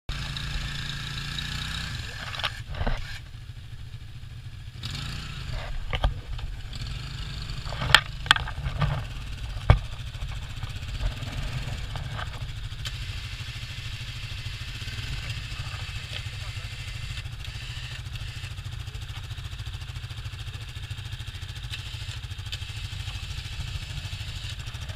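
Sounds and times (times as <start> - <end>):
atv engine running: 0.1 - 24.9.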